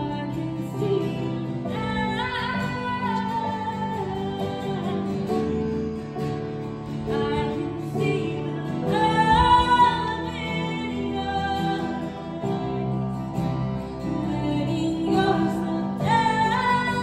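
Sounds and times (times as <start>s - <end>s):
woman singing: 0.0s - 5.7s, 7.0s - 17.0s
acoustic guitar: 0.0s - 17.0s
keyboard chords: 0.0s - 17.0s.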